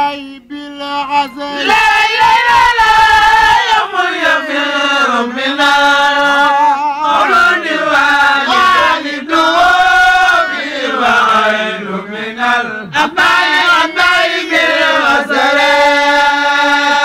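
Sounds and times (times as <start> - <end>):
man chanting religious song: 0.0 - 17.0.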